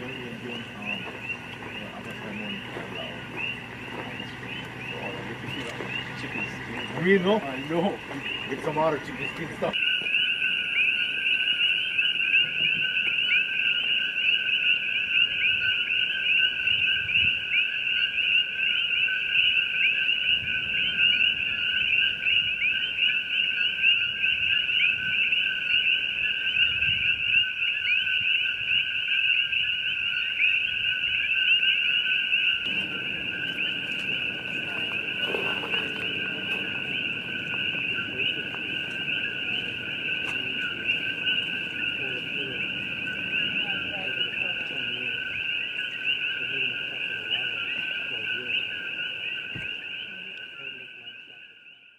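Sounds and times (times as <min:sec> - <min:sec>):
chorus of frogs calling: 0:00.0 - 0:51.9.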